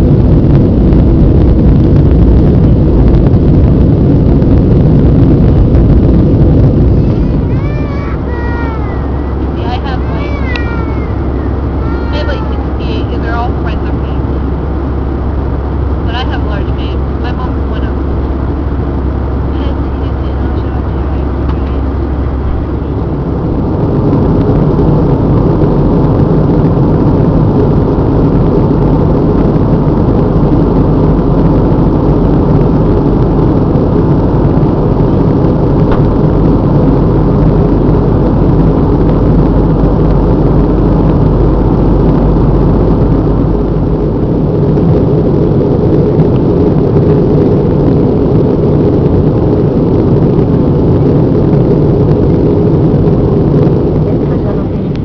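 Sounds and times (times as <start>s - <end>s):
airliner cabin engine noise: 0.0s - 55.0s
deep hum: 0.0s - 55.0s.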